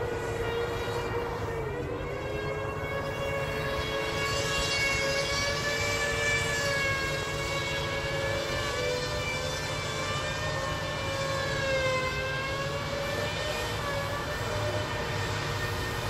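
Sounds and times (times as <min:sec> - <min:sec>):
wheels spinning in snow whine: 0:00.0 - 0:16.0.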